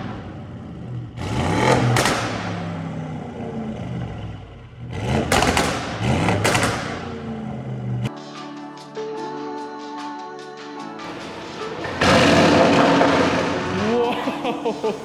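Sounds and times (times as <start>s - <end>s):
car engine free-revving: 0.0s - 8.1s, 11.1s - 15.0s.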